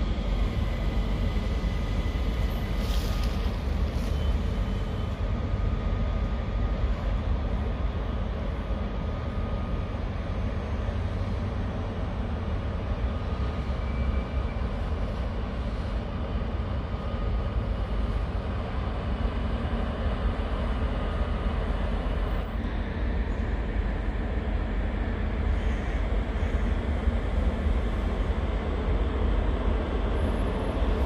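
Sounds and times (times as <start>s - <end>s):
electric trains rumbling: 0.0s - 31.0s
faint high whine: 0.0s - 31.0s.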